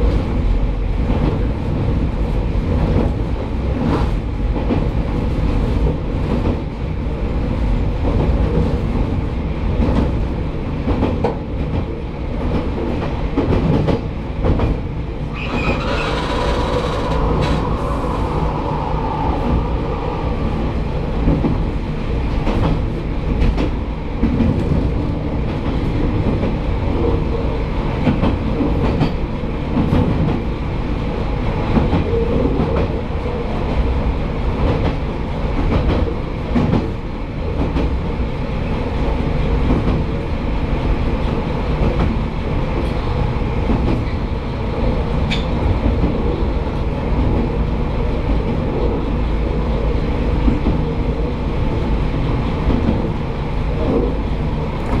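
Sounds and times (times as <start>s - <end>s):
railcar rumbling: 0.0s - 55.0s.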